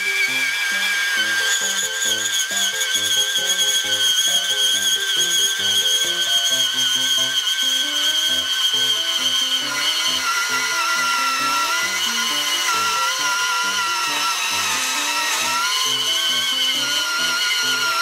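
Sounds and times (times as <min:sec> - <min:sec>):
background music melody: 0:00.0 - 0:18.0
band saw cutting steel pipe: 0:00.0 - 0:18.0.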